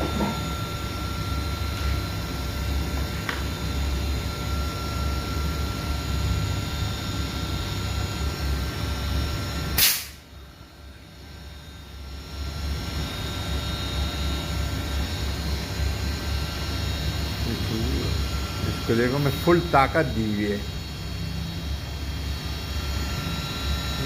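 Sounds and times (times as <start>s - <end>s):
air conditioner compressor humming: 0.0s - 24.0s.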